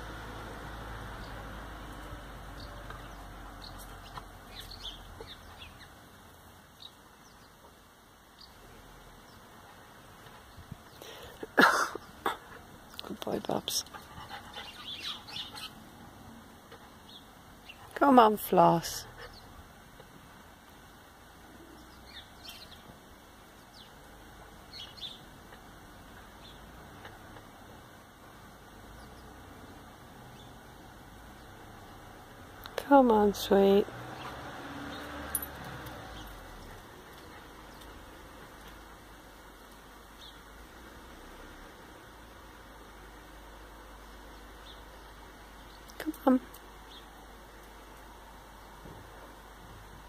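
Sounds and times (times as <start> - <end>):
low outdoor rumble: 0.0 - 50.0
small birds chirping: 1.1 - 20.2, 20.9 - 40.6, 42.2 - 49.5.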